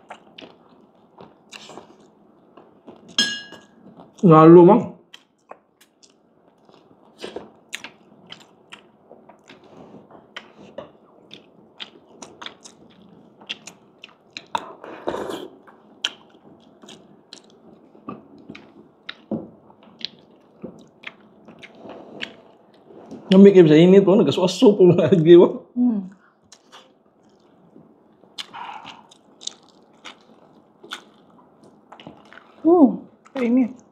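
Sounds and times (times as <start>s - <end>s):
person chewing crunchy food: 0.0s - 3.2s, 5.1s - 23.4s, 26.3s - 32.6s.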